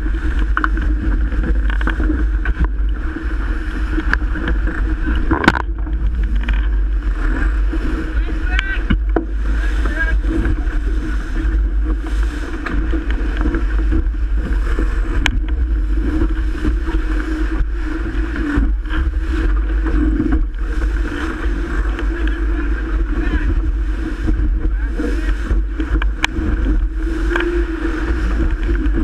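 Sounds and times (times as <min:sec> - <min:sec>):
water rushing along hull: 0:00.0 - 0:29.0
wind buffeting microphone: 0:00.0 - 0:29.0.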